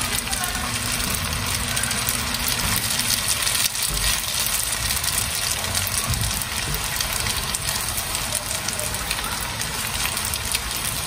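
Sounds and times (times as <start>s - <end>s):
spaghetti sizzling in frying pan: 0.0s - 11.0s.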